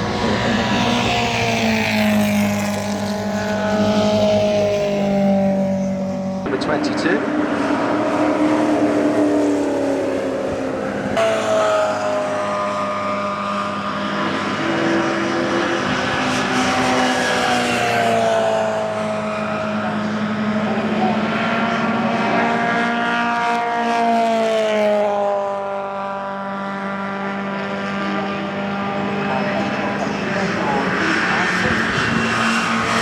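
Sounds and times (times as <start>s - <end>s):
race cars passing at high revs: 0.0s - 33.0s.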